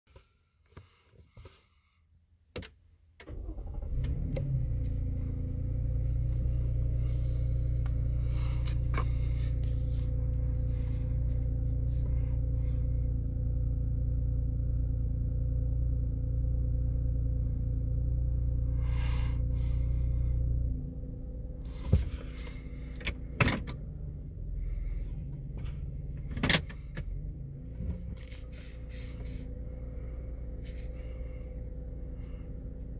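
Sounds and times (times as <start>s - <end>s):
car engine starting and idling: 2.5s - 32.9s.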